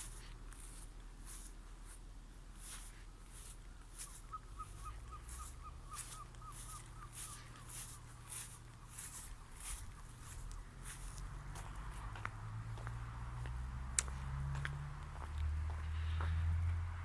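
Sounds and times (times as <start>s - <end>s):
footsteps scuffing: 0.0s - 16.4s.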